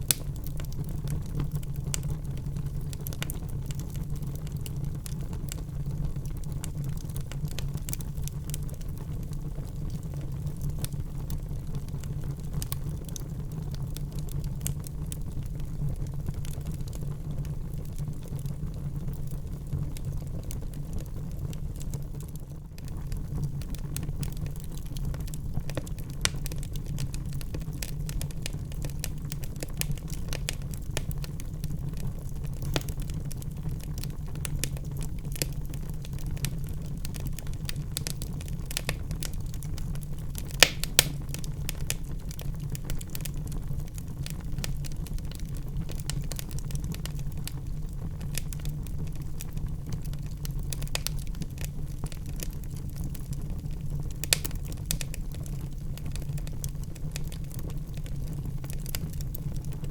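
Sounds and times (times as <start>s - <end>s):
fire crackling and popping: 0.0s - 59.9s
flames rumbling: 0.0s - 59.9s.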